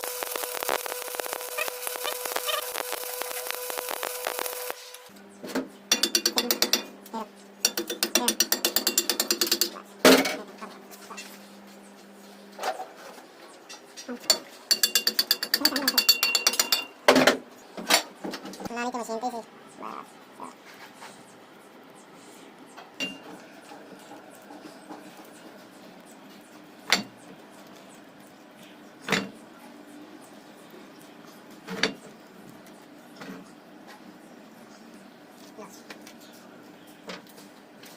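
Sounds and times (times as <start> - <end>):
faint workshop background: 0.0 - 37.9.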